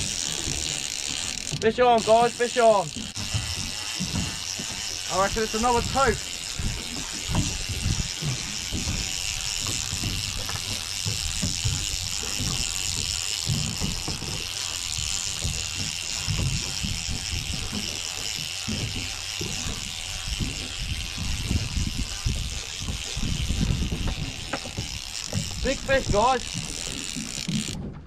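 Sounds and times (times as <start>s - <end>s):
wind buffeting microphone: 2.9s - 28.0s.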